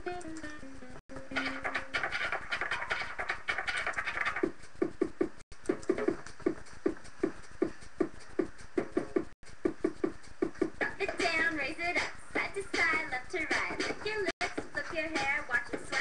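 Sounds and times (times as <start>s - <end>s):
music with thumping beat: 1.1s - 16.0s.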